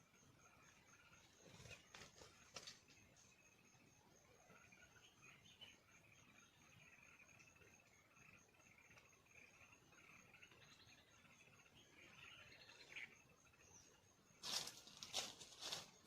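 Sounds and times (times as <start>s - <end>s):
faint chirping: 0.0s - 16.0s
insects trilling: 0.0s - 16.0s.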